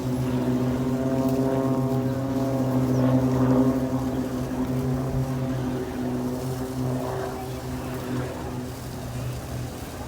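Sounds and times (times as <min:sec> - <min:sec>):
propeller aircraft engine drone: 0:00.0 - 0:10.0.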